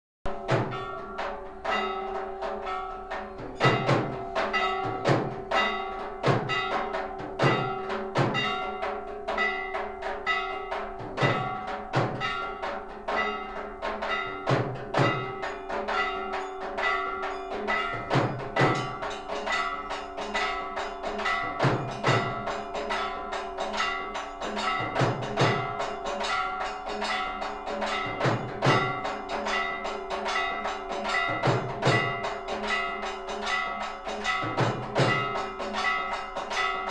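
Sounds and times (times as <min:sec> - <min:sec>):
deep drum beats: 0:00.3 - 0:36.9
metal bells ringing fast: 0:00.3 - 0:36.9.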